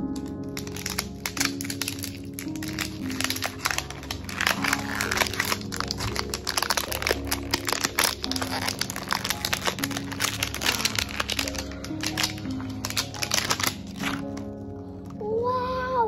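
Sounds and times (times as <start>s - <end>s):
plastic wrapper crinkling: 0.0s - 15.4s
background music with held notes: 0.0s - 16.0s.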